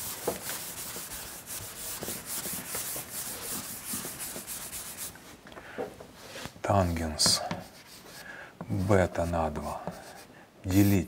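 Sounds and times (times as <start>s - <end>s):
cloth wiping a blackboard: 0.0s - 5.3s, 6.2s - 11.0s.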